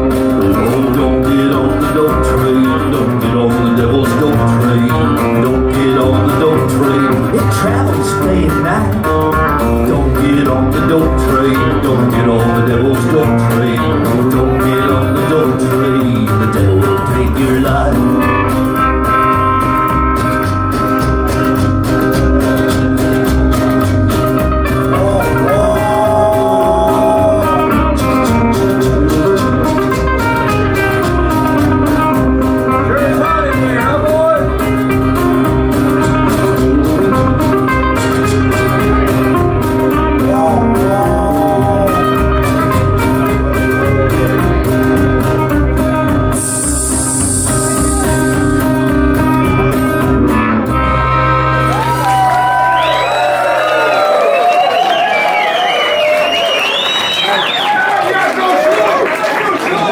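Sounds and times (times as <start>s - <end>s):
lead guitar bending notes: 0.0s - 53.0s
country band playing: 0.0s - 59.9s.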